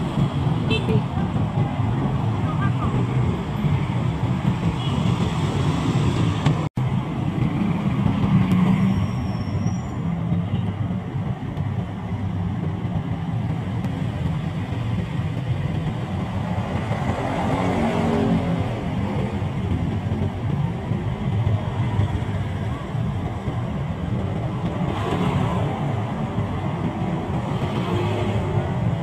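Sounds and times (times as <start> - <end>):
road rumble: 0.0 - 29.0
scooter and car engines: 0.0 - 29.0.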